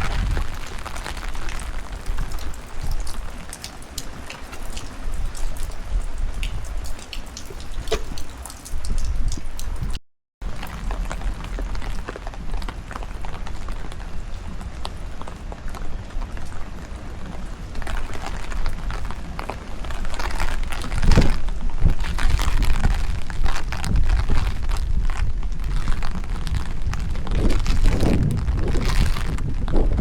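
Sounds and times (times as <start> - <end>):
rain pattering: 0.0 - 30.0
wind rumbling on microphone: 0.0 - 30.0.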